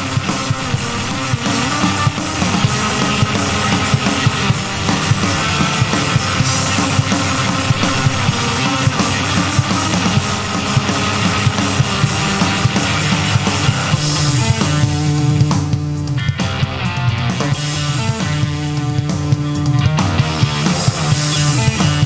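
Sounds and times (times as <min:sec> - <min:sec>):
distorted electric guitars: 0:00.0 - 0:22.0
hard-hit drum kit: 0:00.0 - 0:22.0.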